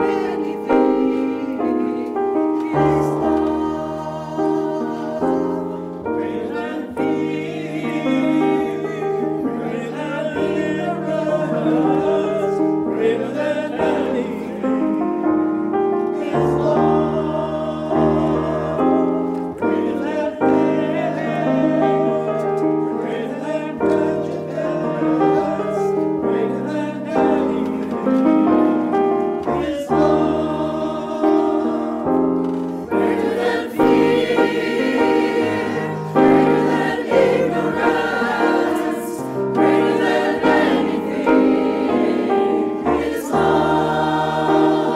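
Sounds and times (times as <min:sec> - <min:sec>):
mixed choir singing in harmony: 0:00.0 - 0:44.9.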